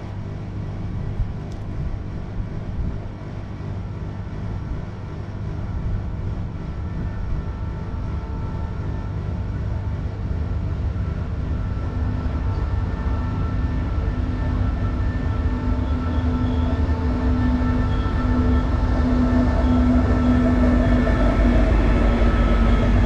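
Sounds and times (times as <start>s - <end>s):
locomotive engine drone: 0.0s - 23.0s.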